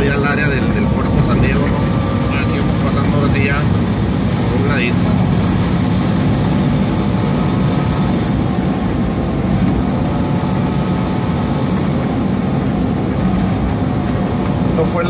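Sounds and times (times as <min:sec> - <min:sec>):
diesel truck engine drone: 0:00.0 - 0:15.0.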